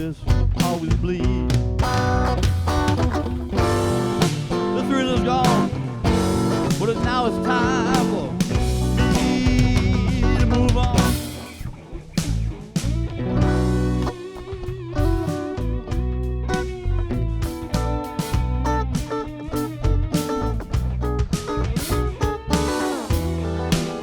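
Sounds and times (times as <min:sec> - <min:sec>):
drum kit: 0:00.0 - 0:24.0
lead guitar bent notes: 0:00.2 - 0:24.0.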